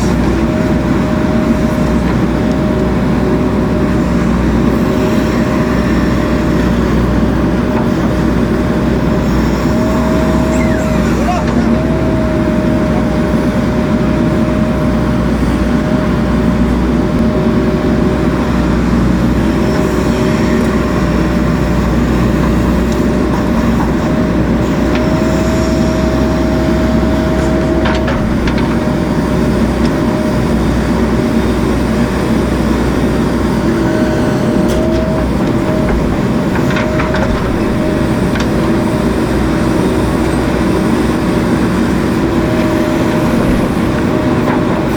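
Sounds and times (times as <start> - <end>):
constant high whine: 0.0 - 44.9
diesel engine running: 0.0 - 44.9.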